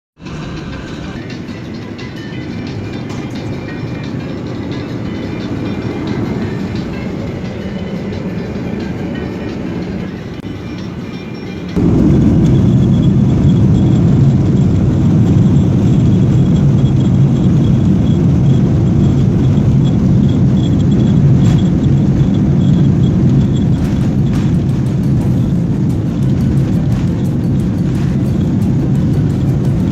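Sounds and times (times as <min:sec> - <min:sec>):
low rumble of moving vehicle: 0:00.2 - 0:29.9.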